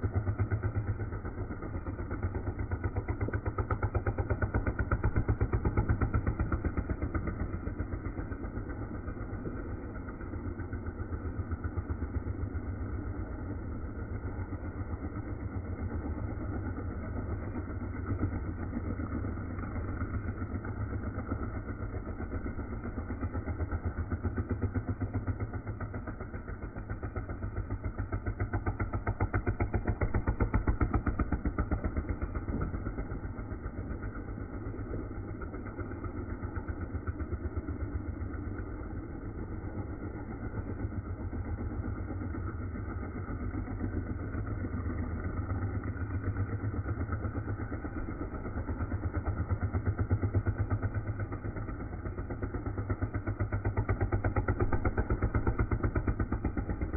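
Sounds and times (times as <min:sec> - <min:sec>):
motorcycle engine running hard: 0:00.0 - 0:56.9.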